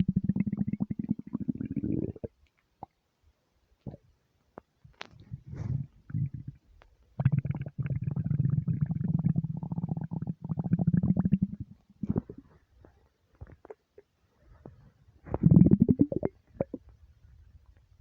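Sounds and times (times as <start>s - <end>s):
stomach gurgles: 0.0s - 3.0s, 3.8s - 17.9s
stomach rumbling: 0.0s - 3.0s, 3.8s - 18.0s.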